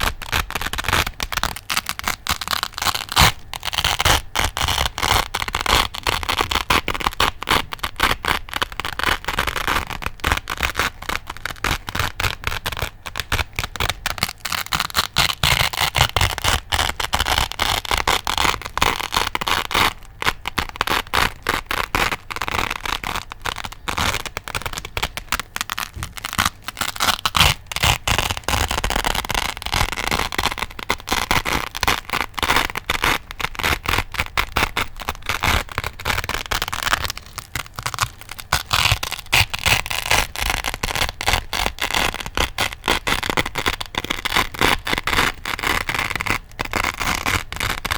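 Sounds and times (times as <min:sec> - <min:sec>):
velcro ripping apart: 0:00.0 - 0:47.9.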